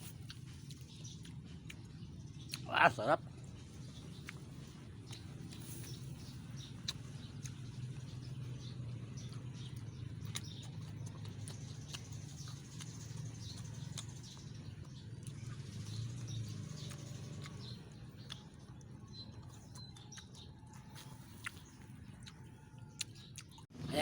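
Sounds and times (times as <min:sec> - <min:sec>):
birds chirping: 0:00.0 - 0:24.0
crunchy chewing of vegetables: 0:00.0 - 0:24.0.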